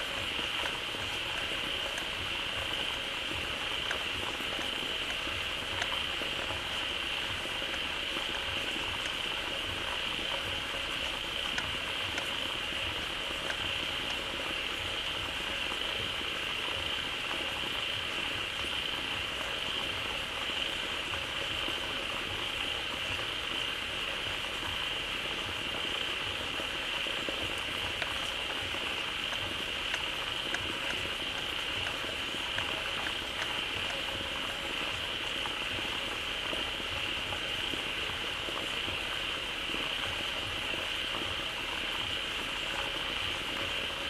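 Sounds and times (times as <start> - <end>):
chorus of frogs croaking: 0.0 - 44.0.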